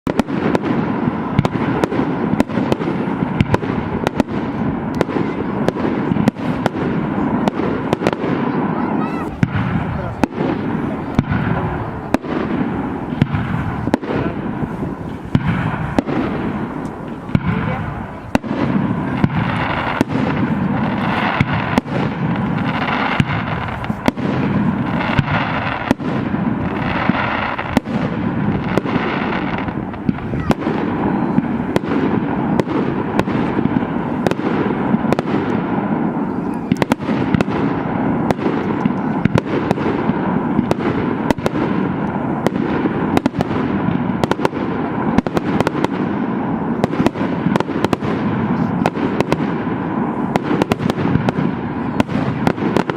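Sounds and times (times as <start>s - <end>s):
firework bangs: 0.0s - 52.9s
rumble of firework bursts: 0.0s - 52.9s.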